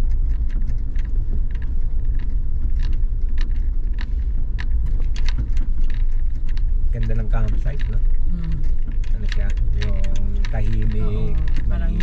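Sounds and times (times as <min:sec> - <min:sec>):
sharp clicks and knocks: 0:00.0 - 0:11.7
vehicle rumbling: 0:00.0 - 0:12.0.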